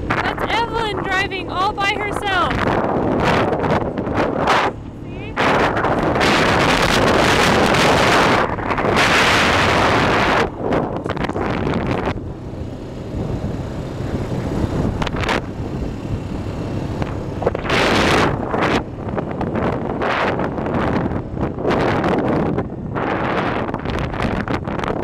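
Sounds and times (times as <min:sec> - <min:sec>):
quad bike engine running: 0:00.0 - 0:25.0
wind buffeting microphone: 0:00.0 - 0:25.0.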